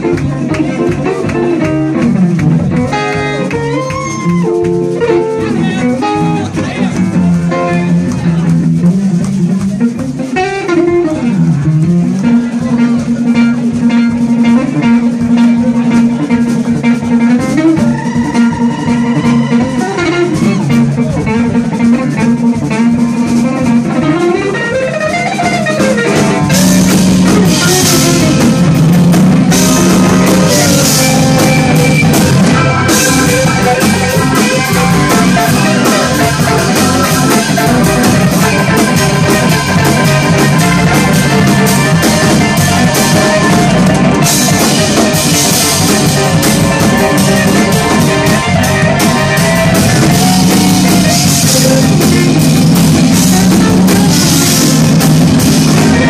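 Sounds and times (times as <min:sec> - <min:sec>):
drum kit: 0:00.0 - 0:56.0
electric guitar lead with bent notes: 0:00.0 - 0:56.0.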